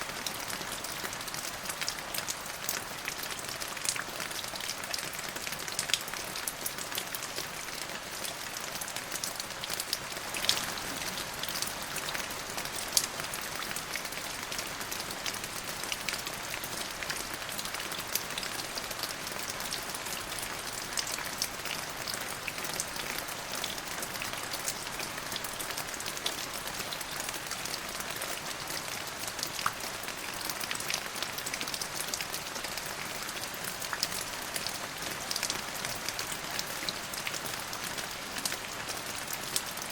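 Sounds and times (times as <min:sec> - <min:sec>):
rain pattering on surface: 0:00.0 - 0:39.9.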